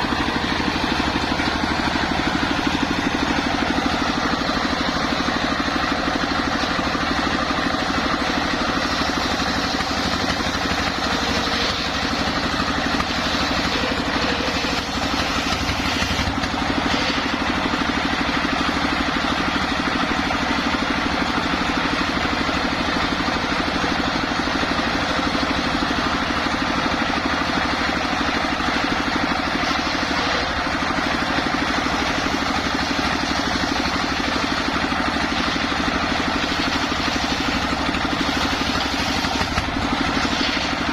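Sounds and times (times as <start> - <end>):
engine-driven circular saw running: 0.0 - 40.9.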